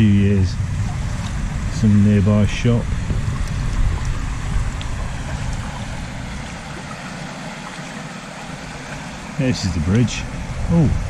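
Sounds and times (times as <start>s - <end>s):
low rumble: 0.0s - 11.0s
river water rushing: 0.0s - 11.0s.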